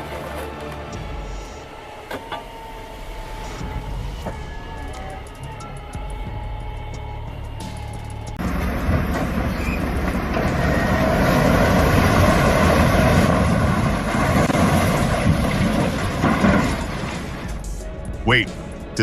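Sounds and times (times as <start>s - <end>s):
heavy machinery rumbling and clattering: 0.0s - 19.0s.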